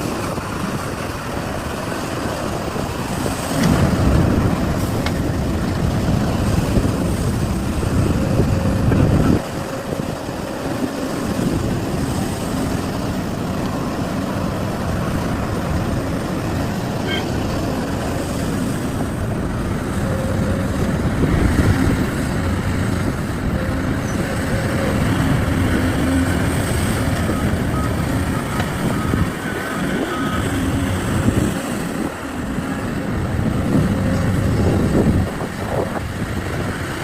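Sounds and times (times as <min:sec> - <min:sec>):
heavy diesel machinery running: 0:00.0 - 0:37.0.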